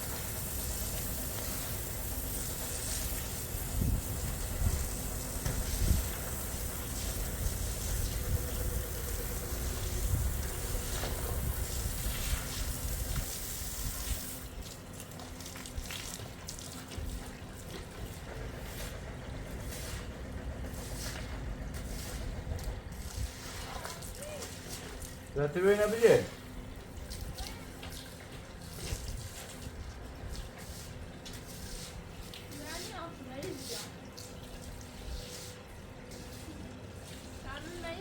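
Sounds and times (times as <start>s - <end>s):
water trickling and splashing: 0.0s - 20.1s, 20.8s - 38.0s.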